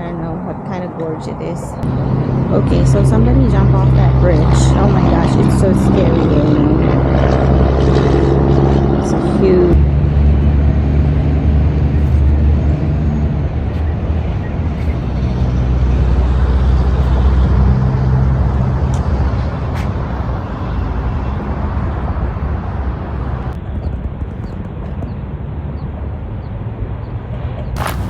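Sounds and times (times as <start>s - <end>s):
passing vehicles: 0.0s - 28.0s.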